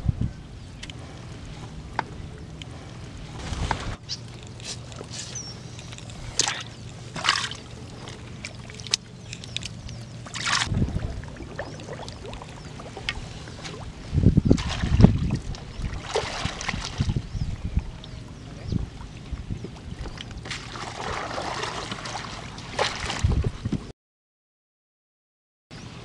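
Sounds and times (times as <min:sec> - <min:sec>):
water splashing in a boat: 0:00.9 - 0:23.9.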